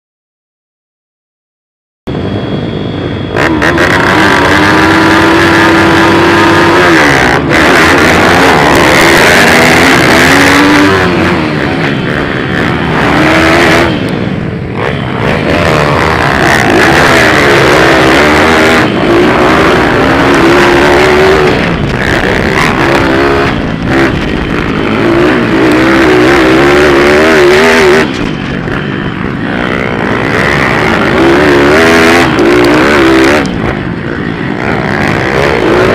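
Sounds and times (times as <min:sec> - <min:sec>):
motorbike engines revving: 0:02.1 - 0:35.9.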